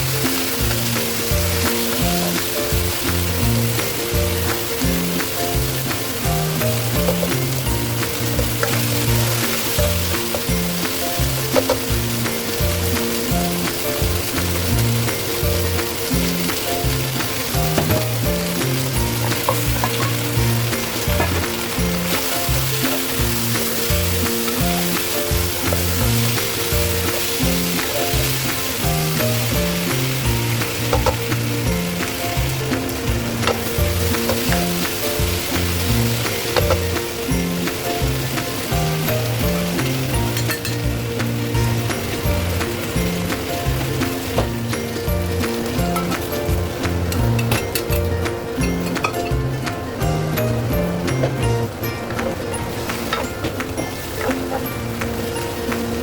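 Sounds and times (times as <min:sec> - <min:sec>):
background music: 0:00.0 - 0:56.0
food sizzling in a pan: 0:00.0 - 0:56.0
stirring clicks: 0:00.0 - 0:56.0.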